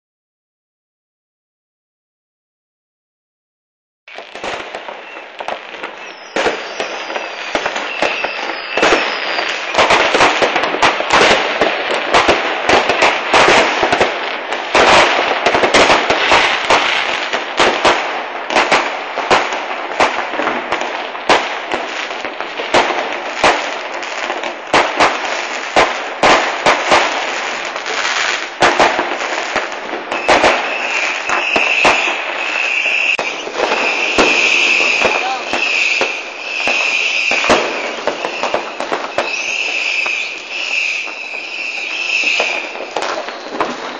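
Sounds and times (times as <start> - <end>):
fireworks bangs and crackling: 4.1 - 43.9.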